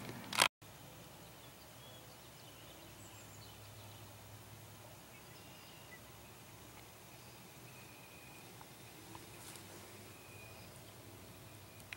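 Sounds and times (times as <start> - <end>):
outdoor background hiss: 0.0 - 11.9
distant bird chirps: 0.8 - 11.9.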